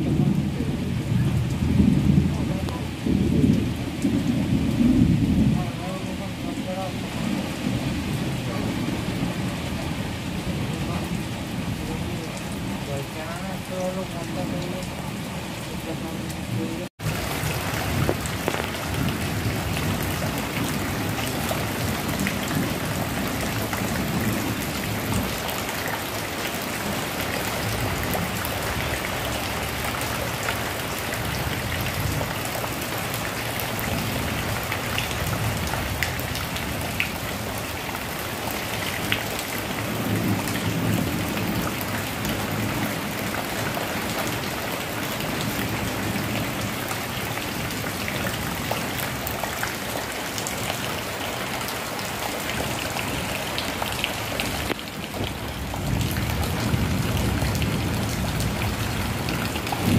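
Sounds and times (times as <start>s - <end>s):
heavy rain on sheet roofs: 0.0s - 59.9s.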